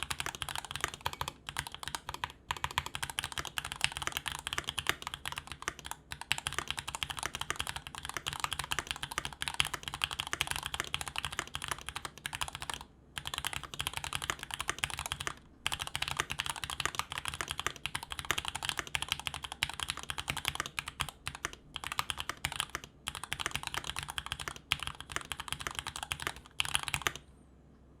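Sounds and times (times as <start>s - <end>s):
fast typing on mechanical keyboard: 0.0s - 27.2s.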